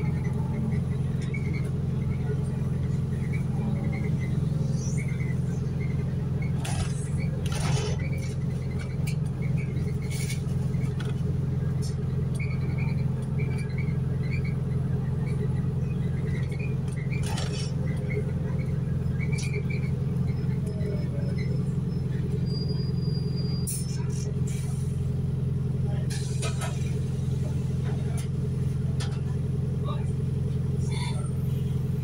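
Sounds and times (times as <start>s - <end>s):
bus drivetrain and road drone: 0.0s - 32.0s.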